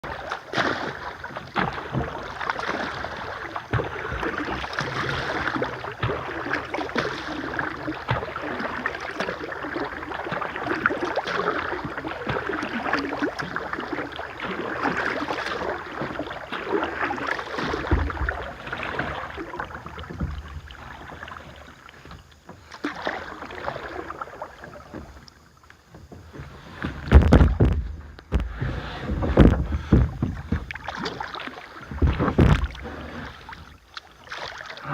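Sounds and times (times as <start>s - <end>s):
water splashing and gurgling: 0.0s - 34.9s.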